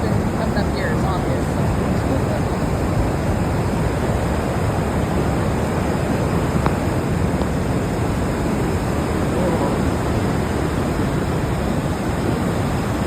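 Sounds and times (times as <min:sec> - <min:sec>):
floodwater rushing through creek: 0:00.0 - 0:13.0.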